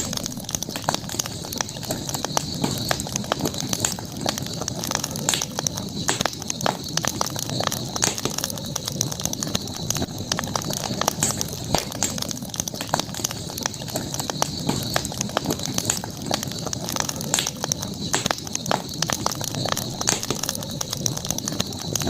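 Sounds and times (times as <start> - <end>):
burning wood rushing: 0.0 - 22.0
campfire pops and snaps: 0.0 - 22.0
steady high hiss: 0.0 - 22.0.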